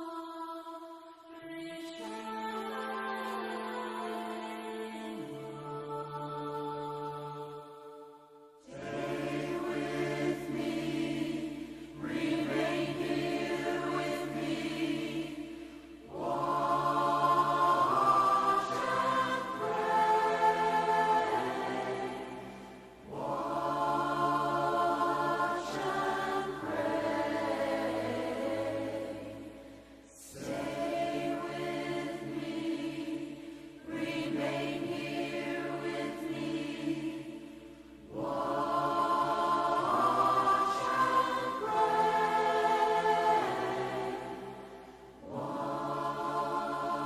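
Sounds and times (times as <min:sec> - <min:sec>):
choir singing held chords: 0:00.0 - 0:47.0.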